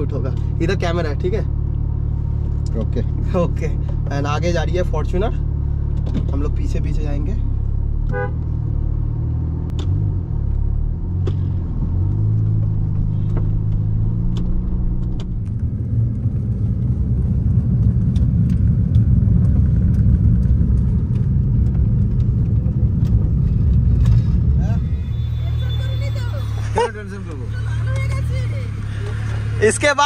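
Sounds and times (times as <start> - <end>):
car engine humming: 0.0 - 30.0
road noise: 0.0 - 30.0.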